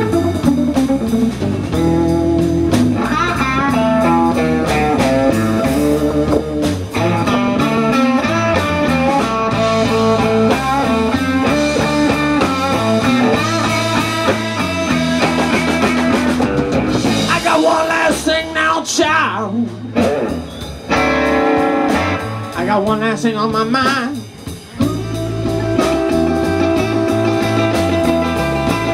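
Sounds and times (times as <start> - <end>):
lead guitar: 0.0 - 28.9
live blues band instrumental: 0.0 - 28.9.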